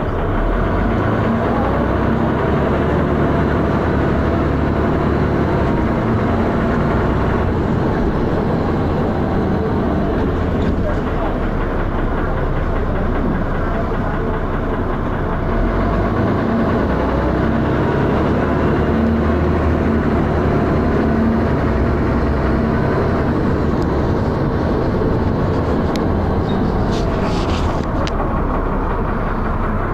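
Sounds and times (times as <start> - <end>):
bus body rattling: 0.0 - 29.9
bus diesel engine running: 0.0 - 29.9.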